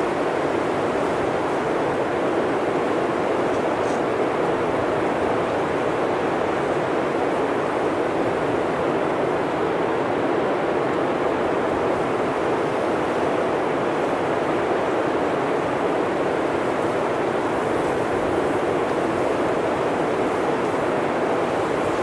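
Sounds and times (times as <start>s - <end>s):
blizzard wind blowing: 0.0s - 22.0s.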